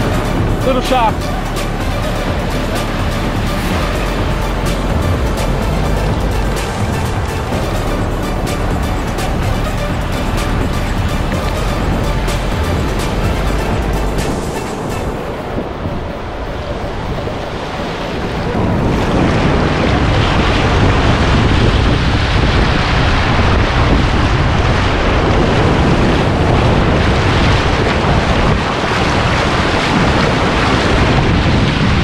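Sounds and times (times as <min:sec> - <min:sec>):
ocean surf washing up: 0:00.0 - 0:32.0
wind buffeting microphone: 0:00.0 - 0:32.0.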